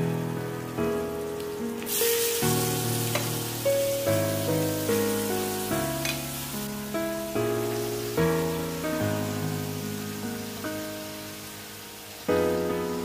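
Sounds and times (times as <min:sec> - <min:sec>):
background music of sustained notes: 0:00.0 - 0:13.0
food sizzling in a wok: 0:00.0 - 0:13.0.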